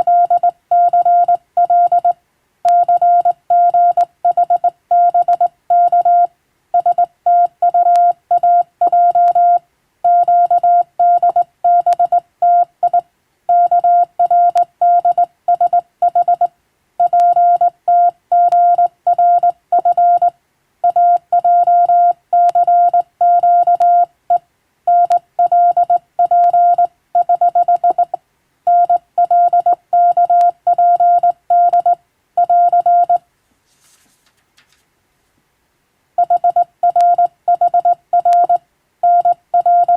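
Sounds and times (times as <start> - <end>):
morse code tone: 0.0 - 2.1, 2.7 - 24.1, 24.9 - 33.2, 36.2 - 39.9.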